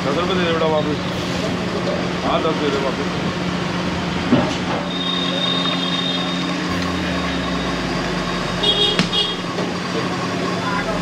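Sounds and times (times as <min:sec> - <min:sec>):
low street hum: 0:00.0 - 0:11.0.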